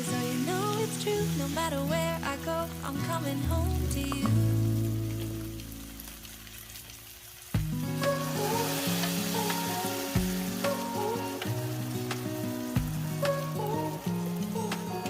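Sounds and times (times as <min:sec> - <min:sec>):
song with steady bass line: 0:00.0 - 0:05.9, 0:07.6 - 0:15.0
food sizzling in a pan: 0:00.0 - 0:15.0.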